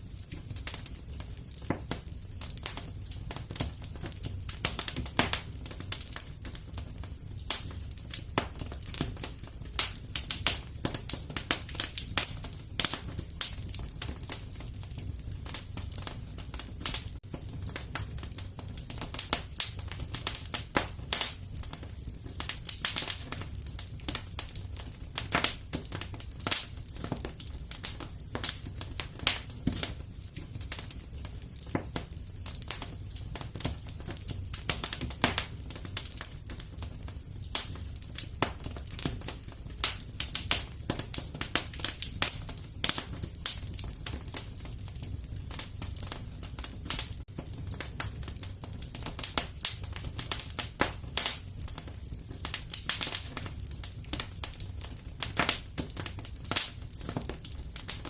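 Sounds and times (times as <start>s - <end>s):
fire low rumble: 0.0s - 58.0s
wood fire pops and snaps: 0.1s - 58.0s.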